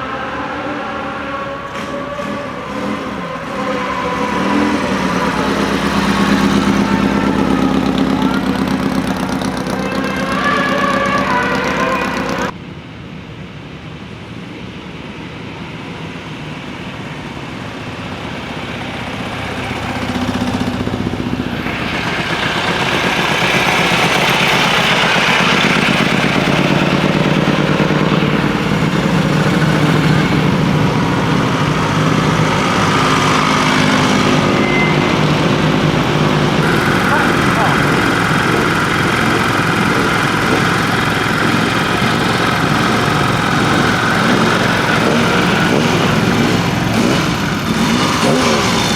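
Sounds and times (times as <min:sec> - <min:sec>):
fainter engine approaching: 0:00.0 - 0:12.6, 0:15.7 - 0:48.9
racing engines running hard: 0:00.0 - 0:12.6, 0:14.6 - 0:48.9.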